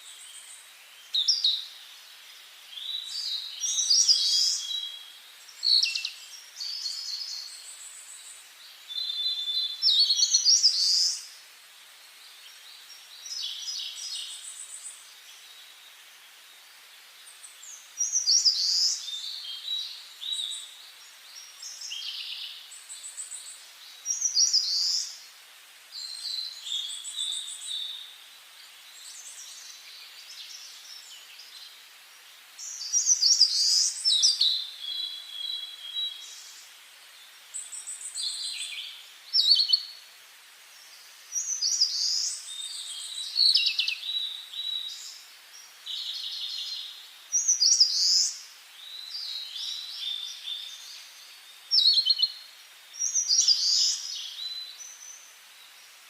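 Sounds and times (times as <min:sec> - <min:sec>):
faint hiss: 0:00.0 - 0:56.0
songbirds singing: 0:00.0 - 0:56.0.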